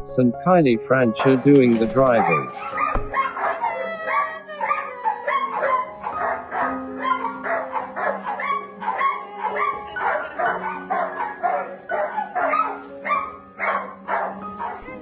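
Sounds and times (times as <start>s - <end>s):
background music held notes: 0.0s - 15.0s
dog barking: 1.2s - 15.0s.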